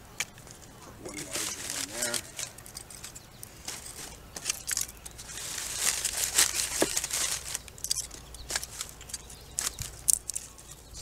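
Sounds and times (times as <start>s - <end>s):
newspaper rustling and crinkling: 0.5s - 10.8s.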